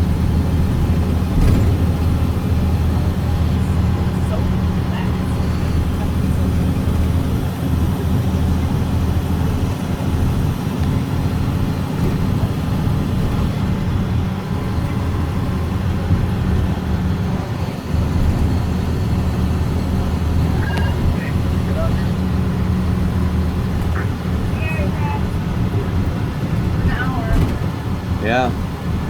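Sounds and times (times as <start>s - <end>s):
diesel bus engine rumbling: 0.0s - 29.0s
road and cabin noise: 0.0s - 29.0s.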